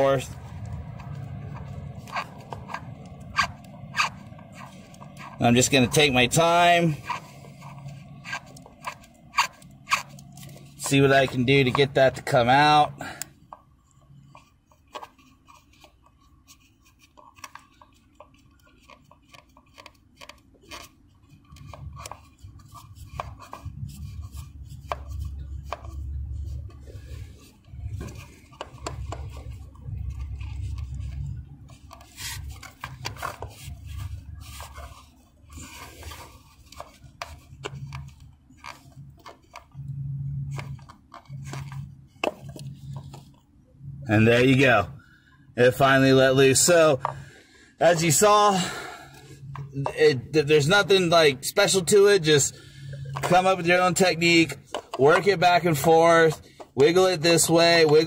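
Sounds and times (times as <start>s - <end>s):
plastic and rubber rubbing: 0.0s - 44.9s, 49.2s - 58.0s.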